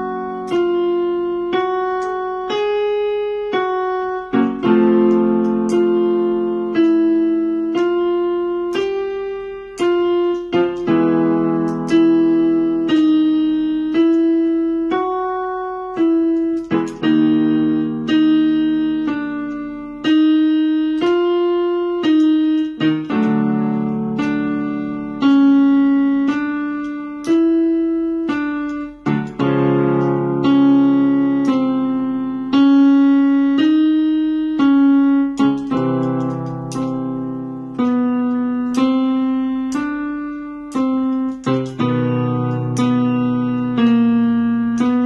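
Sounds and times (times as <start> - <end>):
electronic keyboard piano: 0.0 - 45.0.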